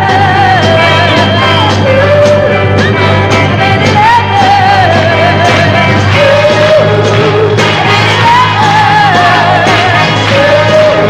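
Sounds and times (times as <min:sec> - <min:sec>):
steady bass: 0:00.0 - 0:11.0
woman singing: 0:00.0 - 0:11.0
orchestra playing: 0:00.6 - 0:11.0.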